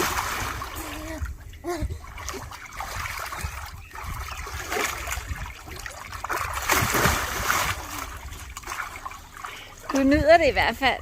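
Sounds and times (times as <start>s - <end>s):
water splashing in a pool: 0.0s - 11.0s.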